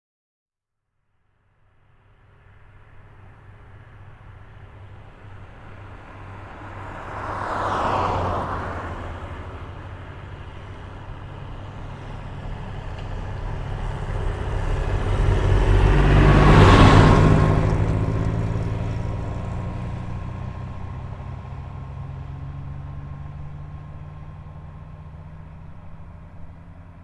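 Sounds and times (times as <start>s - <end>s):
low rumble of traffic: 1.1s - 27.0s
car passing by: 1.5s - 27.0s
vehicle approaching: 1.6s - 27.0s.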